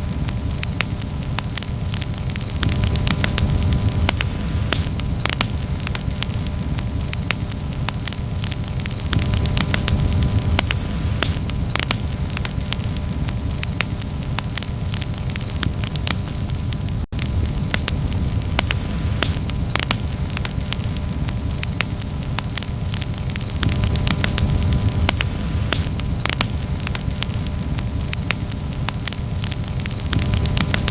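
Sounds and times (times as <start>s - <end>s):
low rumble of flames: 0.0s - 30.9s
wood crackling and popping: 0.0s - 30.9s.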